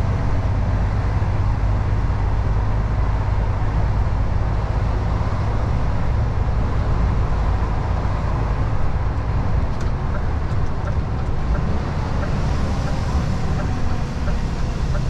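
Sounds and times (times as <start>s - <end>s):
lorry engine rumble: 0.0s - 15.0s
road noise hiss: 0.0s - 15.0s.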